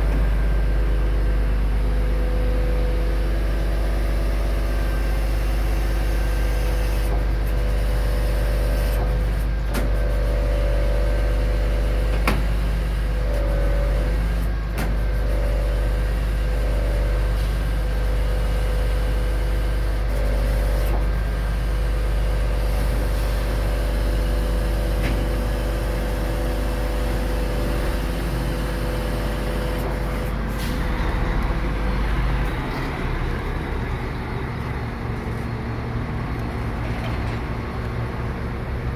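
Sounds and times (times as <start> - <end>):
diesel truck engine running: 0.0 - 38.9
hydraulic whining hum: 0.0 - 38.9.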